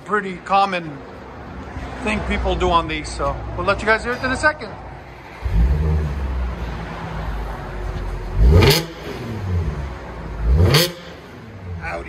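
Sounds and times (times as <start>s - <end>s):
car engine idling and revving: 0.4s - 12.0s.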